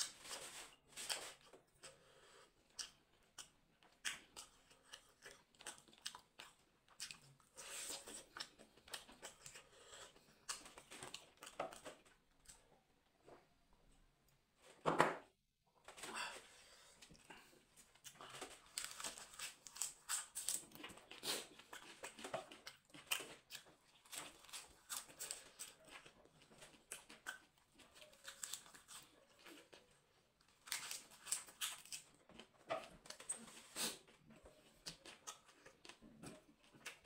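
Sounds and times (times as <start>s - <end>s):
person chewing and smacking: 0.0s - 12.9s, 17.0s - 37.0s.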